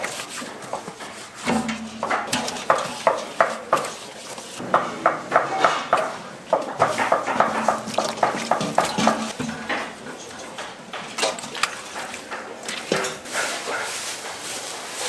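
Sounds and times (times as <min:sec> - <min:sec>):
utensils clattering against cookware: 0:00.0 - 0:15.0.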